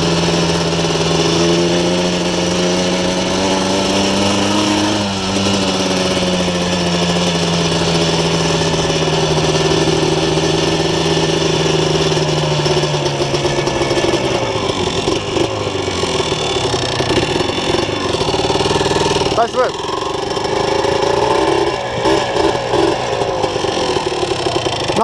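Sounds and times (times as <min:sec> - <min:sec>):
two-stroke engine running: 0:00.0 - 0:25.0.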